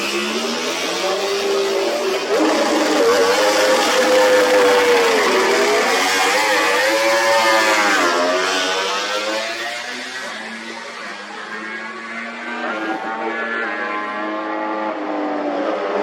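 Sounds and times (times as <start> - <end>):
racing motorcycle engines revving: 0.0 - 16.0.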